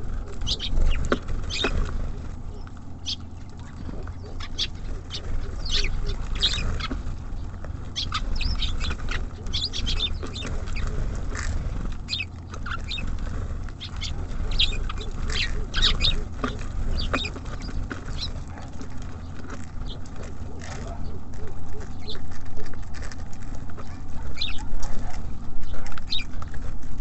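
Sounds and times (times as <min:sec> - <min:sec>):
songbirds chirping: 0:00.0 - 0:27.0
steady low rumble: 0:00.0 - 0:27.0.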